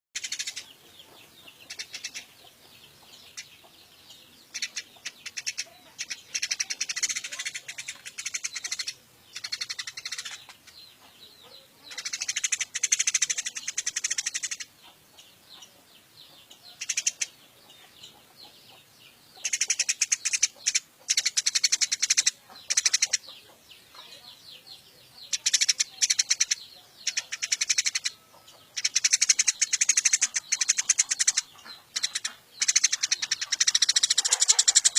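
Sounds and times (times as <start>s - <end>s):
sparrow chattering chirps: 0.2s - 34.9s.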